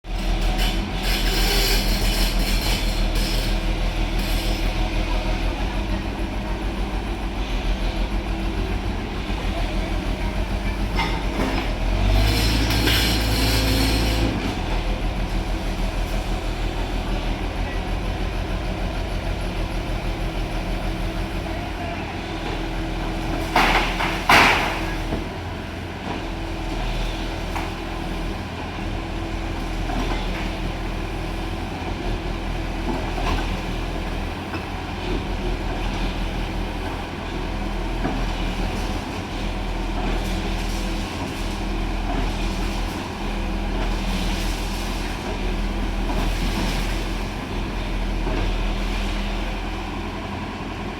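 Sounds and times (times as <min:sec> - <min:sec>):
diesel engine rumbling: 0:00.0 - 0:50.9.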